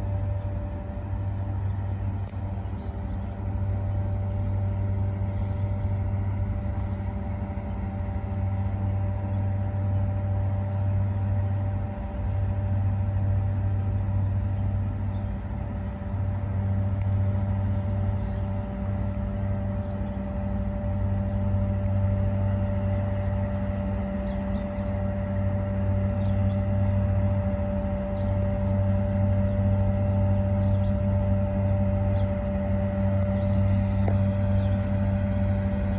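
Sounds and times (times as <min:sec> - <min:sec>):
towboat diesel engines droning: 0:00.0 - 0:35.9.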